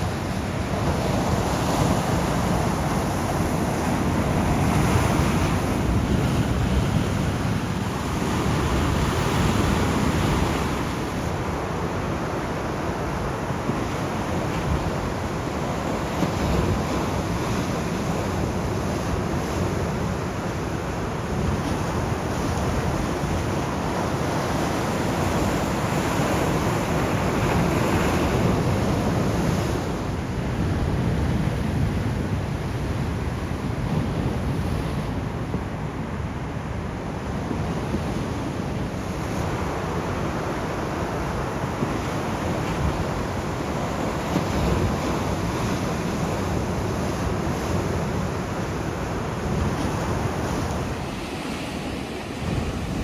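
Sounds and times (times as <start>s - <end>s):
surf washing on shore: 0.0s - 53.0s
wind buffeting microphone: 0.0s - 53.0s.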